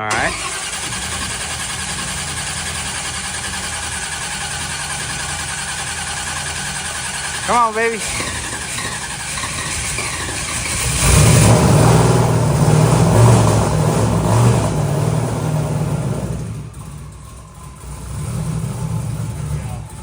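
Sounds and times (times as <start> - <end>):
engine cranking on starter: 0.0 - 20.0
engine running unevenly and revving: 0.0 - 20.0.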